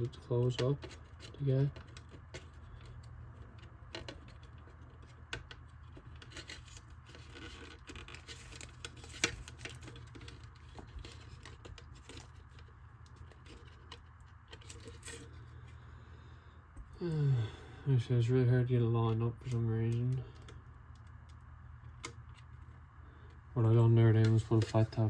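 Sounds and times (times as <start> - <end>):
plastic parts clicking and scraping: 0.0 - 15.9, 19.1 - 25.0
steady low hum: 0.0 - 25.0.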